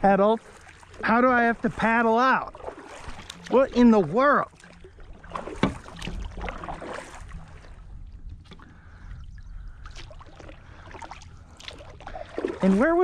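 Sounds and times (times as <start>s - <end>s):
low steady rumble: 0.0s - 13.0s
paddle splashing in water: 0.4s - 13.0s.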